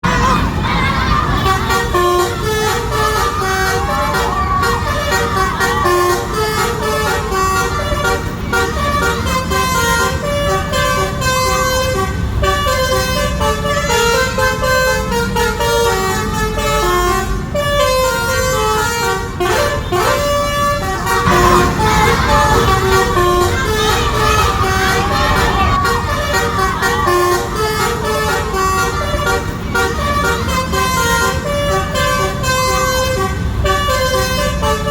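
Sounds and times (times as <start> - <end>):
bus engine running: 0.0 - 34.9
multi-tone musical bus horn: 0.0 - 34.9.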